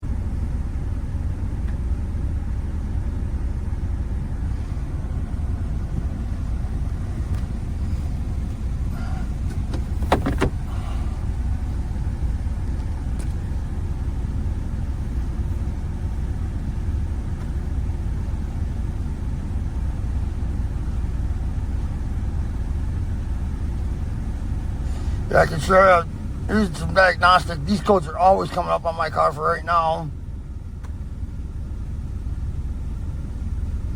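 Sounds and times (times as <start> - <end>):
car engine rumbling: 0.0 - 33.9.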